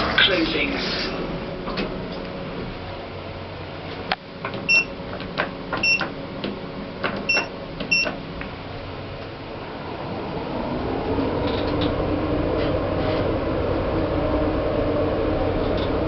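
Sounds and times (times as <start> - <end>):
lift car hum: 0.0 - 16.0.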